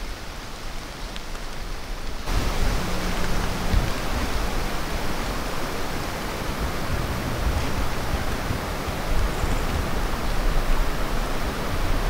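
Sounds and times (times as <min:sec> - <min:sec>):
low rumbles: 0:02.2 - 0:12.0
steady rushing noise: 0:02.2 - 0:12.0.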